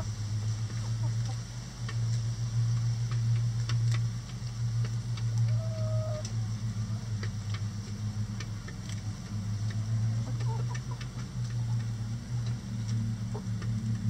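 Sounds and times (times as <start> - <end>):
hens pecking cabbage: 0.0 - 14.0
steady low hum: 0.0 - 14.0.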